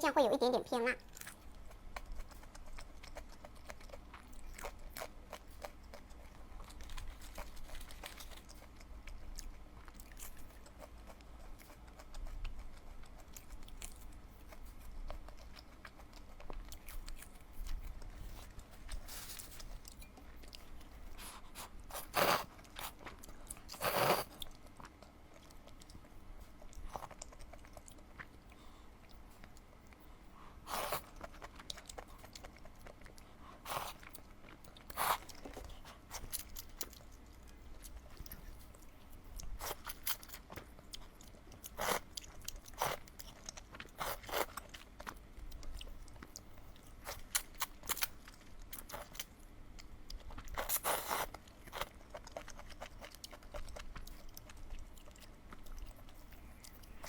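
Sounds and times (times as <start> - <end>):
person chewing crunchy food: 1.0 - 57.0.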